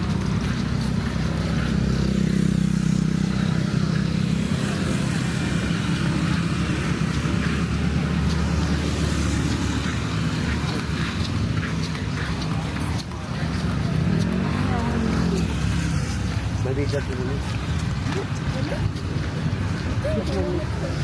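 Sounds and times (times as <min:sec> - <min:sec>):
low engine hum: 0:00.0 - 0:21.0
street noise: 0:00.0 - 0:21.0
vehicle engines running: 0:00.0 - 0:21.0.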